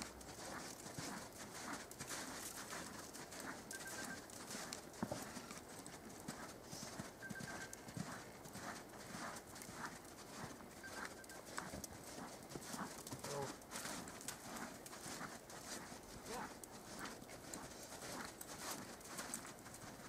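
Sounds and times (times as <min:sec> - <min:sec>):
horse hooves cantering on dirt: 0:00.0 - 0:20.0.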